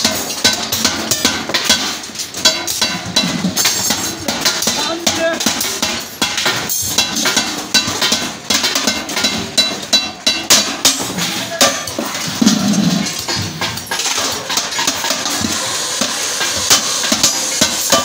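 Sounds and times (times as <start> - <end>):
hammer striking metal bucket: 0.0 - 18.0.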